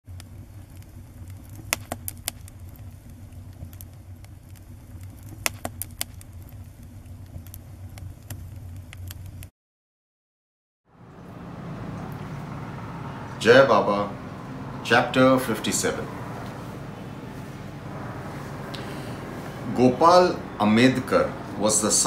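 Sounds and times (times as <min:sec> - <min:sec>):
wood fire crackling: 0:00.1 - 0:09.5, 0:11.1 - 0:22.0.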